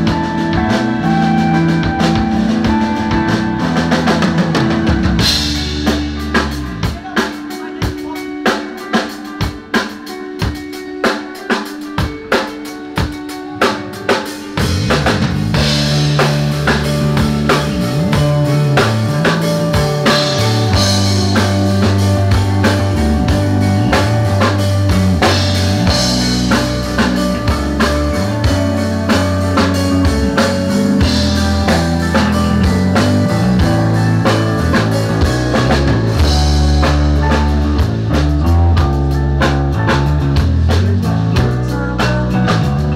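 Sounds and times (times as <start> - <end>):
drum kit beat: 0.0 - 42.9
rock band playing: 0.0 - 42.9.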